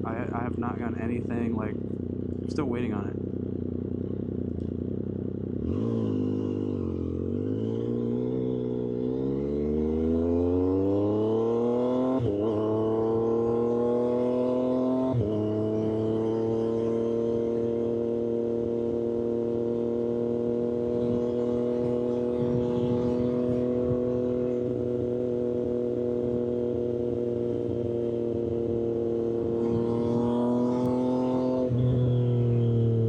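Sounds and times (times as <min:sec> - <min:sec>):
motorcycle engine cruising: 0:00.0 - 0:33.0
wind and road rush: 0:00.0 - 0:33.0.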